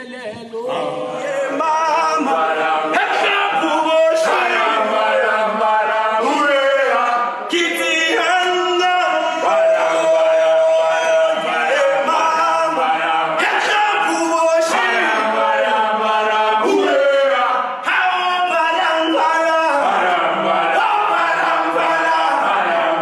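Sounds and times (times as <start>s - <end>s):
men singing a group chant: 0.7s - 23.0s.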